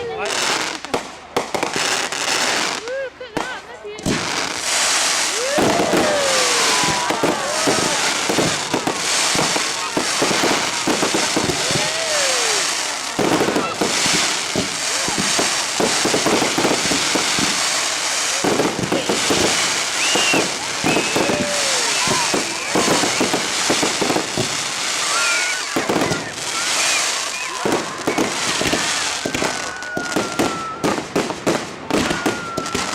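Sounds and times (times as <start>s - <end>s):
crowd voices: 0.0s - 32.9s
fireworks crackling and banging: 0.0s - 32.9s.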